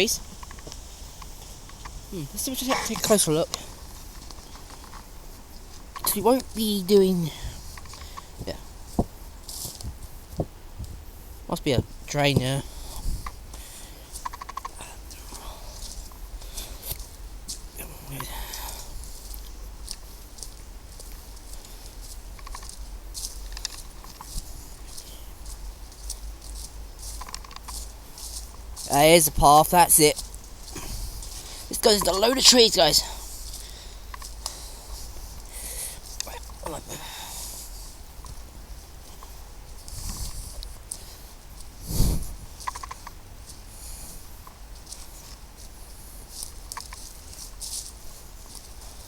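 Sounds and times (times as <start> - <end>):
footsteps crunching on path: 0.0 - 49.0.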